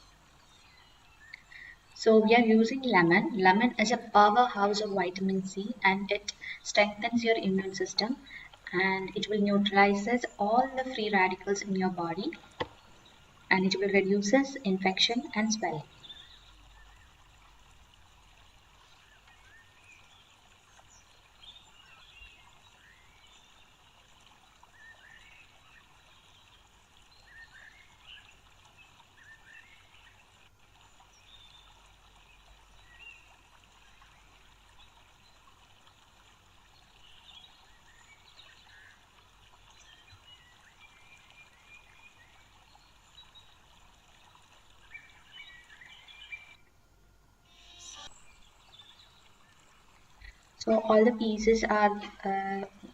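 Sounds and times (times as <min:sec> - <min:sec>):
faint background hiss: 0:00.0 - 0:52.9.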